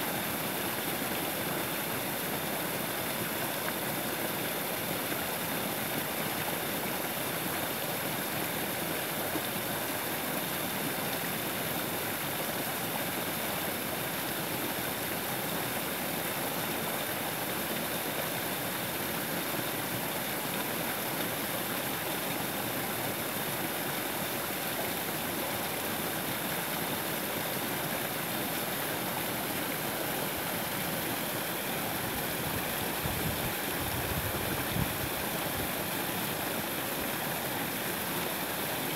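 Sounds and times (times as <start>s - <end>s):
creek water pouring over logs: 0.1s - 38.9s.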